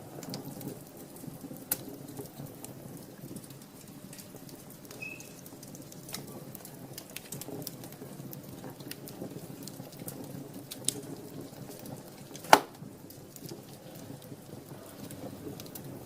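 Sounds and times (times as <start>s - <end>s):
rush of flames: 0.0s - 16.0s
wood fire crackling and popping: 0.0s - 16.0s.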